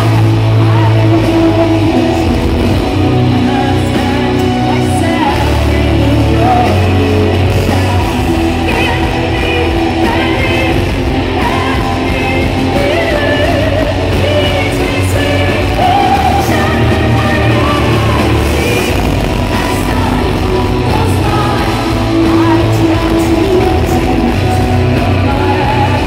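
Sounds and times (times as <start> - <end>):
bass guitar: 0.0 - 26.0
distorted electric guitars: 0.0 - 26.0
drums: 0.0 - 26.0
person singing: 0.0 - 26.0.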